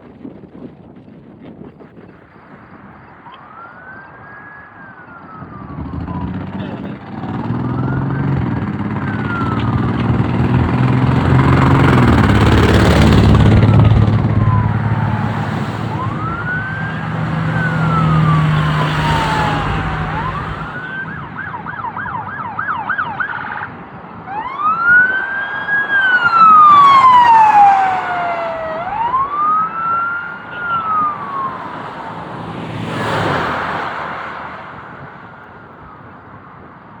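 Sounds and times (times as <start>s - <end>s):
engine and tyre noise: 0.0s - 37.0s
ambulance sirens wailing and yelping: 2.8s - 37.0s.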